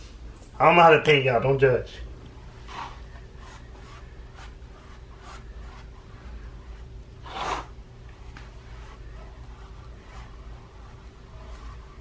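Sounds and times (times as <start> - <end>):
faint steady hum: 0.0 - 12.0
paintbrush strokes on canvas: 2.4 - 12.0.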